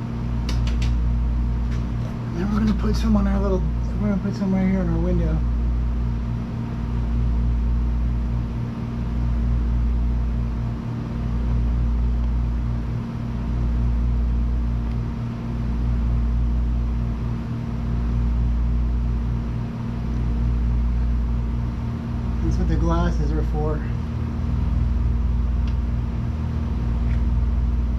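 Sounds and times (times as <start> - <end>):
machine hum with deep rumble: 0.0 - 27.9.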